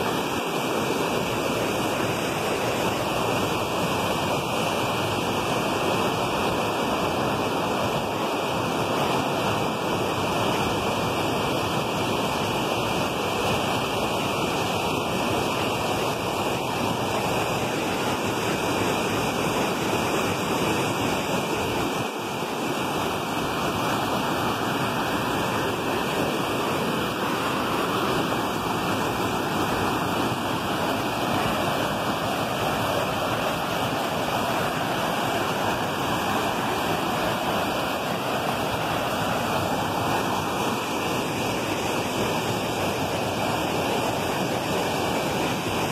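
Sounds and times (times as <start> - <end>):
river rushing over rapids: 0.0 - 45.9.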